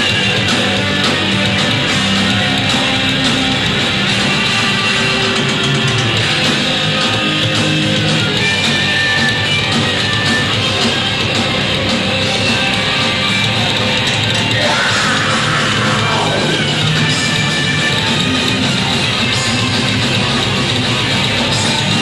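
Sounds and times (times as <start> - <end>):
heavy rock band playing: 0.0 - 22.0.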